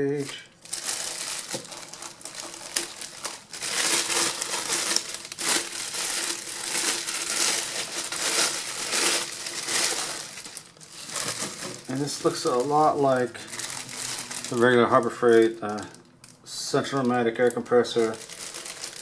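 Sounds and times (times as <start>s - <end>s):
packing material crinkling: 0.0s - 19.0s.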